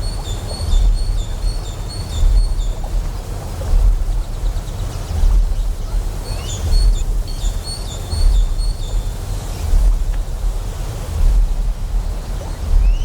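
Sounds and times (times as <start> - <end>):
deep pulsing generator hum: 0.0 - 13.0
flowing water: 0.0 - 13.0.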